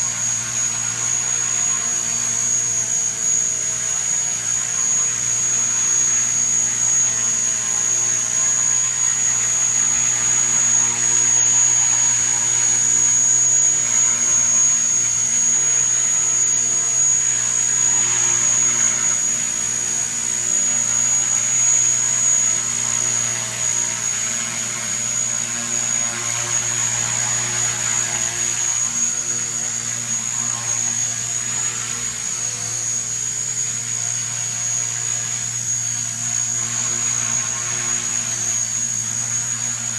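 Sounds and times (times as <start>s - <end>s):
high-pitched motor whine: 0.0s - 39.9s.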